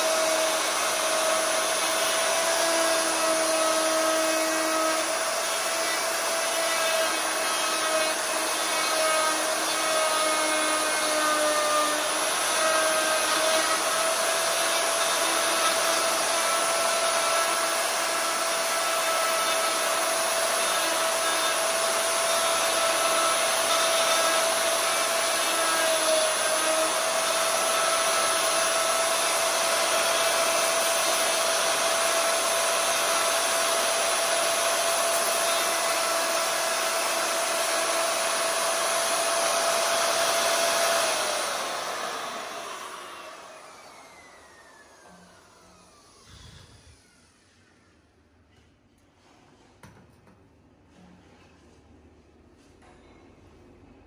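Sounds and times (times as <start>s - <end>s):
router whining: 0.0s - 48.0s.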